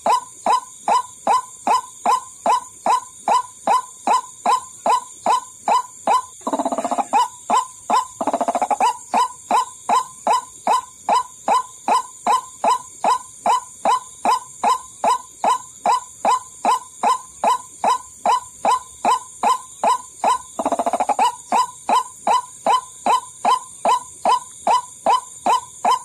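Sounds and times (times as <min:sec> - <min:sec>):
waterhen calls: 0:00.0 - 0:26.0.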